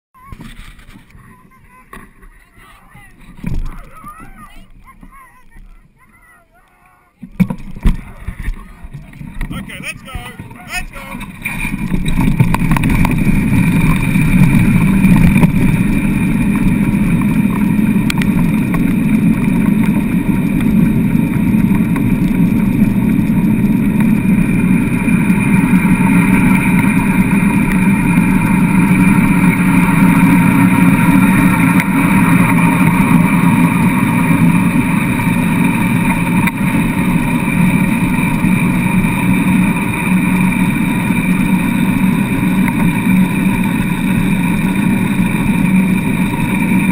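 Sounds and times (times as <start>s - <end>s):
faint steady hum: 0.2s - 46.9s
wheels rolling over hard sand: 0.2s - 46.9s.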